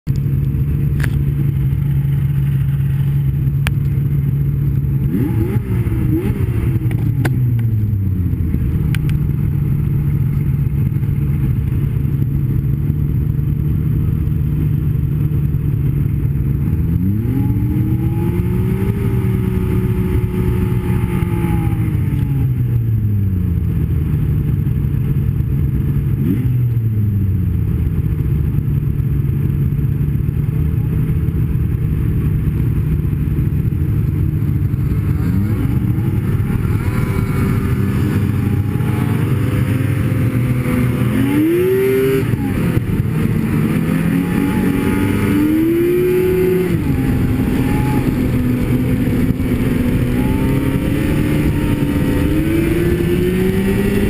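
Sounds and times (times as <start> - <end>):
snowmobile engine revving: 4.3 - 9.0, 9.8 - 26.9, 30.4 - 54.0.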